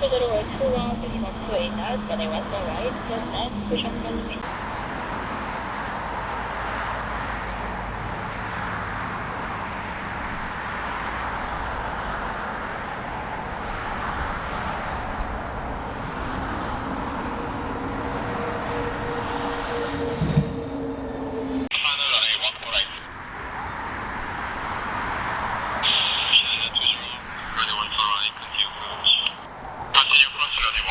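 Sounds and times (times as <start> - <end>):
gusty wind on microphone: 0.0 - 21.2, 22.9 - 27.5
steady hum tones: 0.0 - 30.2
jet engines roaring: 0.0 - 30.9.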